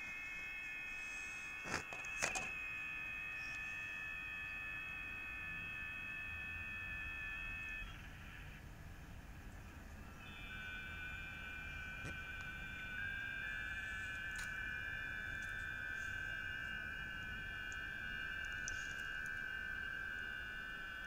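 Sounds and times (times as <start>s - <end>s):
overlapping steady digital tones: 2.6s - 21.0s.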